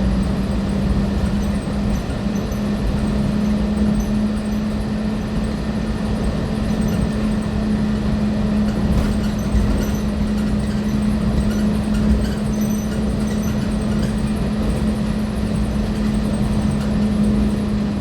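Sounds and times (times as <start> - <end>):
monorail motor hum: 0.0 - 18.0
train rumble in motion: 0.0 - 18.0.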